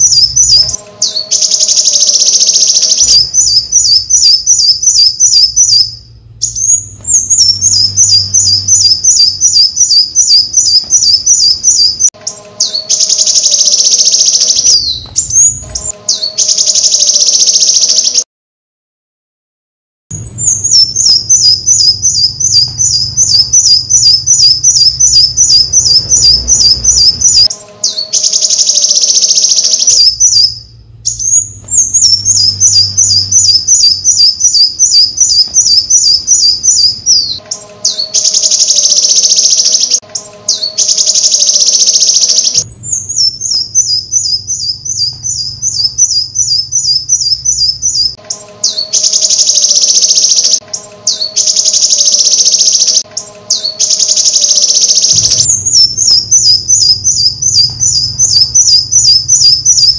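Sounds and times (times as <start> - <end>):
bird chirping rapidly: 0.0 - 18.2, 20.1 - 59.9
harsh buzzy bird trill: 0.0 - 18.3, 20.1 - 59.9.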